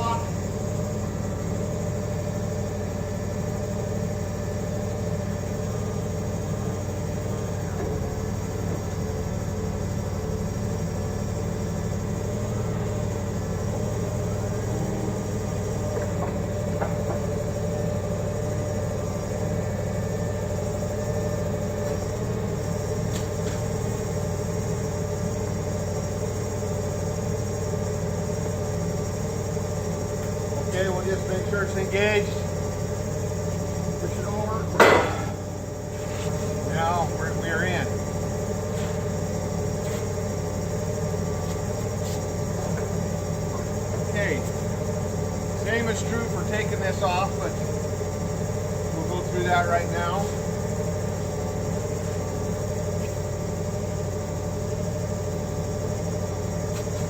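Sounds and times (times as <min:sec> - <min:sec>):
forklift engine idling: 0:00.0 - 0:57.0.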